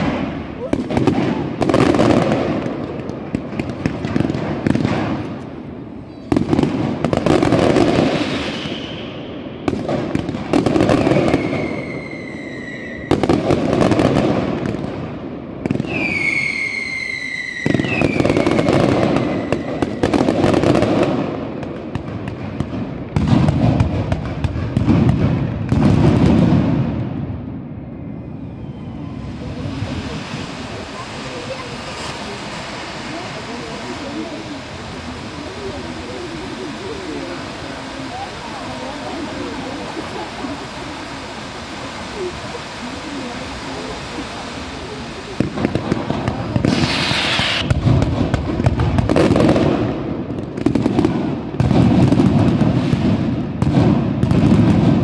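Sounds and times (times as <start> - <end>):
falling fireworks whistles: 0.0 - 27.0, 27.7 - 55.0
fireworks crackling and popping: 0.0 - 55.0.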